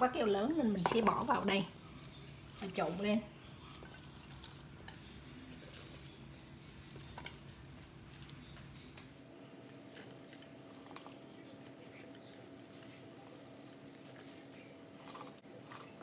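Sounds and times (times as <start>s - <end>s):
shredded vegetables pattering: 1.5s - 16.0s.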